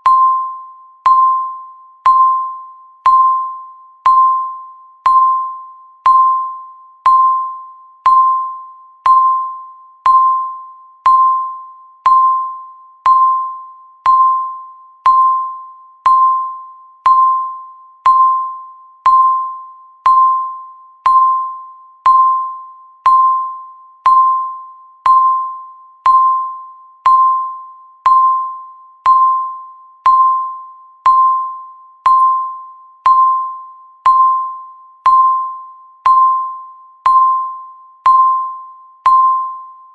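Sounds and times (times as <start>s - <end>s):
timer ticking with bell-like ring: 0.0s - 39.9s.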